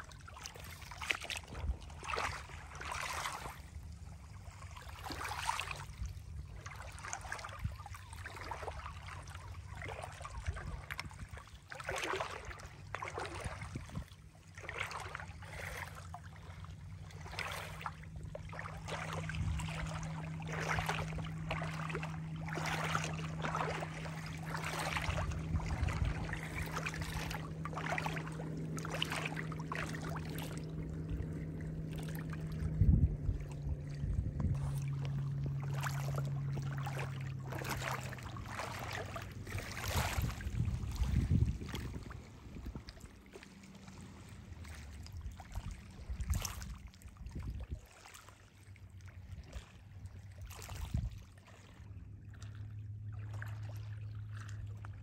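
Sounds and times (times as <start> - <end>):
small waves lapping on shells: 0.0 - 32.6, 33.2 - 55.0
low steady hum: 0.0 - 55.0.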